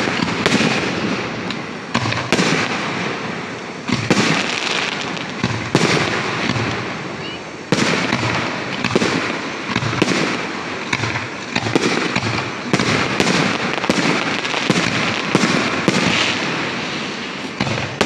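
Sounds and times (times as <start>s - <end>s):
fireworks bursting: 0.0s - 18.0s
fireworks crackling: 0.0s - 18.0s.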